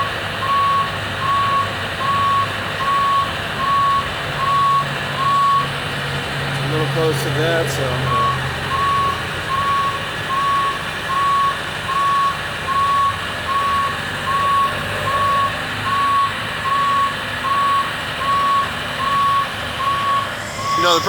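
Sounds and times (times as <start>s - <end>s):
engine humming: 0.0s - 21.0s
motion alarm beeping: 0.4s - 5.7s, 7.1s - 21.0s.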